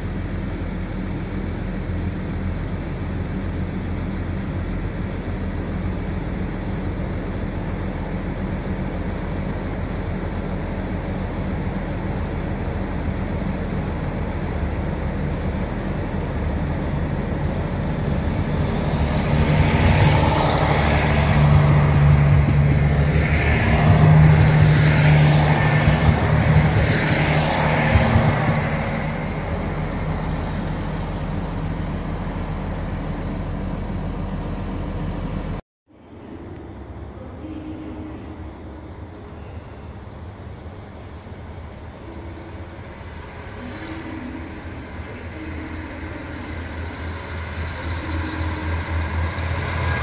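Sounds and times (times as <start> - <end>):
repeated clattering of train: 0.0 - 50.0
train passing with wheel noise: 0.0 - 50.0.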